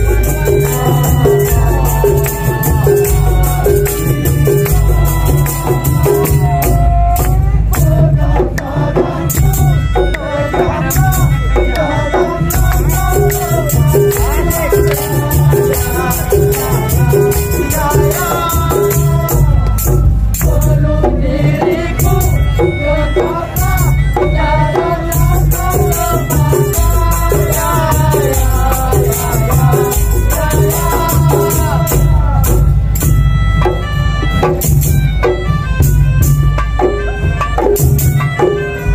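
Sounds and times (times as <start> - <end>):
driving drum beat: 0.0 - 38.9
percussion band playing: 0.0 - 38.9
rattling percussion: 0.0 - 38.9.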